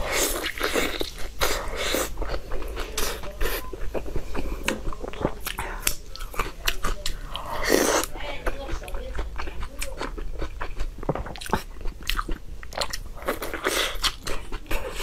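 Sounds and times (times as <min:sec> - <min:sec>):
biting and wet chewing: 0:00.0 - 0:15.0.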